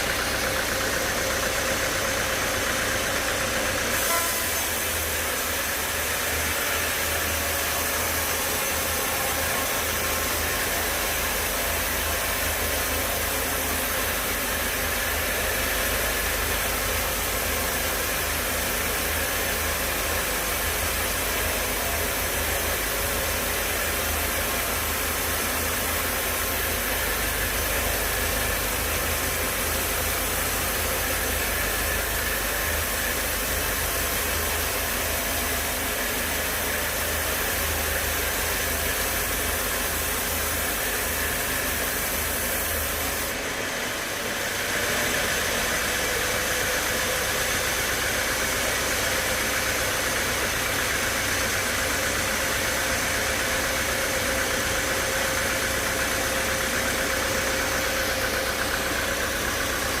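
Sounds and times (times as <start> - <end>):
sawmill machinery running: 0.0 - 60.0.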